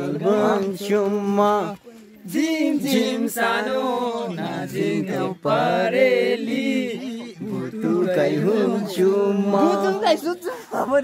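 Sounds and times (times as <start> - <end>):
man singing unaccompanied: 0.0 - 10.4.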